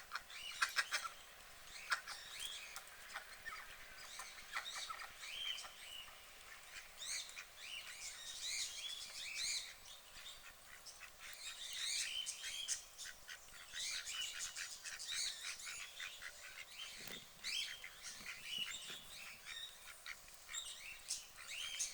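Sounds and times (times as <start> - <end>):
birds chirping: 0.1 - 21.9.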